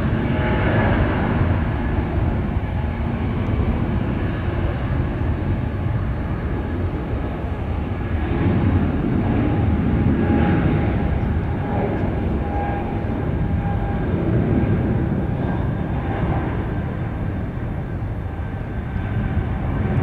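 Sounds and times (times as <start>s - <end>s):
jet engines rumbling at takeoff: 0.0s - 20.0s.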